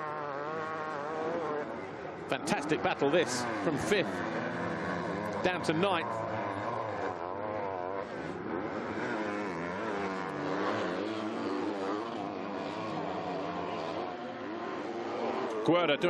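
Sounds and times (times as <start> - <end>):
motocross bike engines racing: 0.0 - 16.0.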